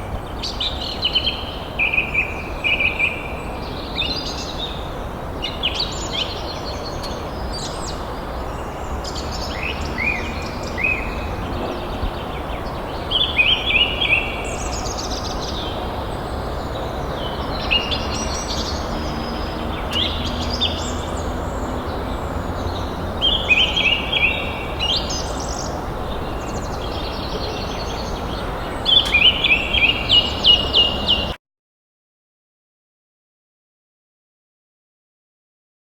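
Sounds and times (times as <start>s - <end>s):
forest birds singing: 0.0s - 31.4s.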